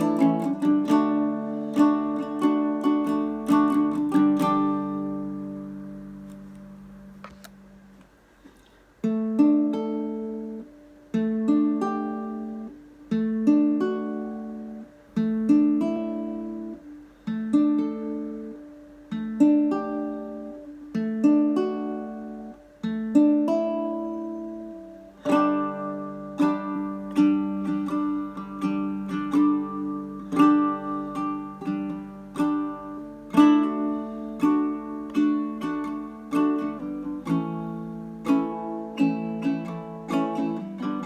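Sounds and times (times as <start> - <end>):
ukulele chords: 0.0 - 41.0.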